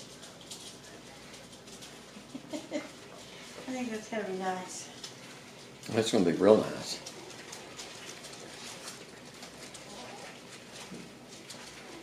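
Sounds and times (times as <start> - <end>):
puppy feet pattering on tile: 0.0 - 12.0.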